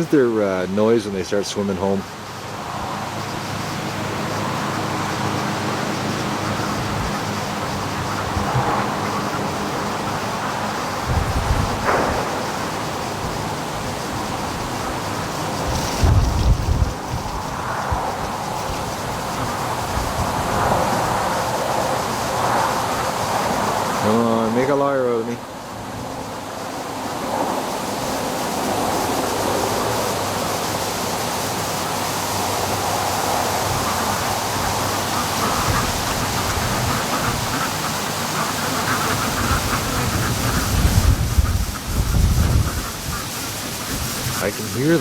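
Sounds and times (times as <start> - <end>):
strong wind on microphone: 2.5 - 24.7, 25.4 - 45.0.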